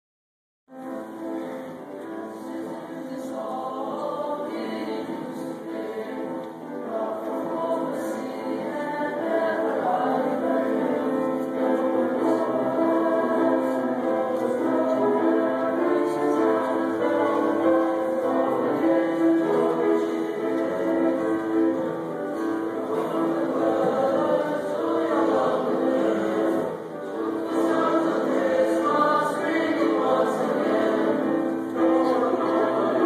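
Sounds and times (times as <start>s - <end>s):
choir singing: 0.9s - 33.0s.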